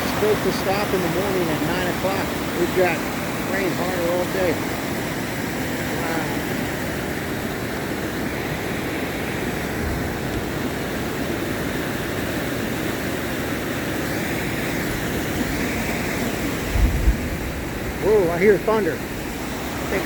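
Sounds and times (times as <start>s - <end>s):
creek rushing: 0.0s - 20.0s
heavy rain: 0.0s - 20.0s.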